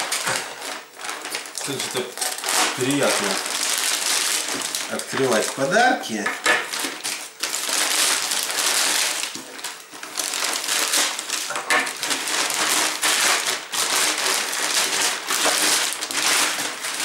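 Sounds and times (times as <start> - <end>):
plastic bag tearing: 0.0 - 17.0
plastic crinkling and rustling: 0.0 - 17.0.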